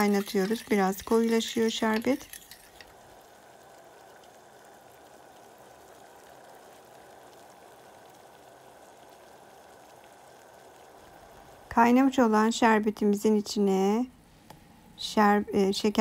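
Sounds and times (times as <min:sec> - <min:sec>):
syrup boiling with faint bubbling: 0:00.0 - 0:16.0.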